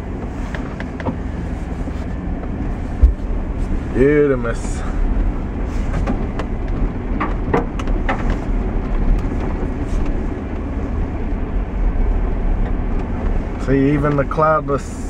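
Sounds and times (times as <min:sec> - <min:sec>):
vehicle rumbling over dirt: 0:00.0 - 0:15.0
vehicle knocks and rattles: 0:00.1 - 0:01.5, 0:02.1 - 0:14.5.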